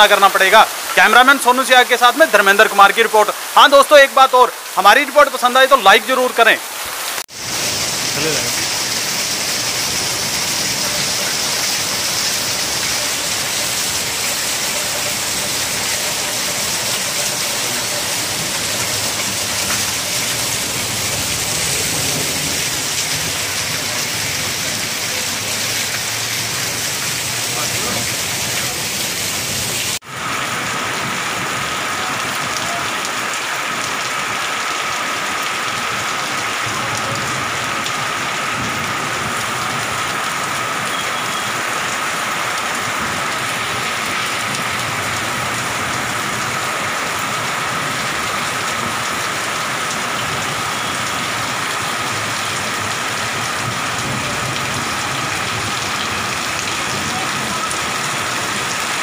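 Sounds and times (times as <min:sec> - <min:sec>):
heavy rain on wet street: 0:00.0 - 0:59.0.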